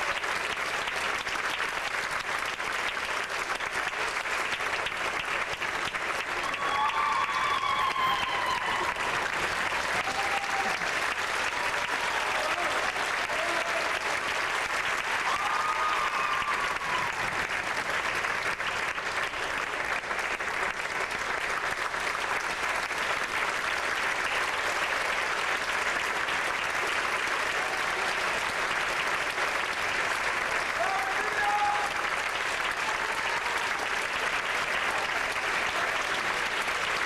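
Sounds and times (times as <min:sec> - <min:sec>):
audience applauding: 0:00.0 - 0:37.0.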